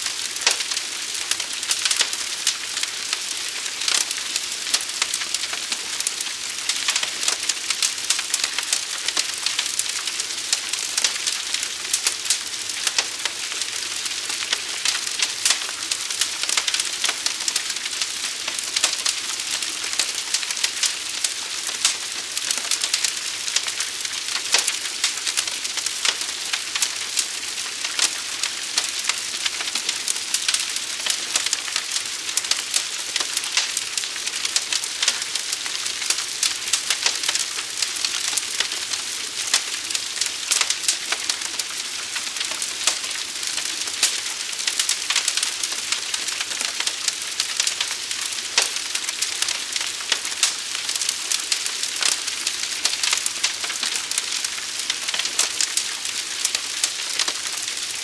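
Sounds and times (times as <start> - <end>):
fire crackling and hissing: 0.0 - 58.0.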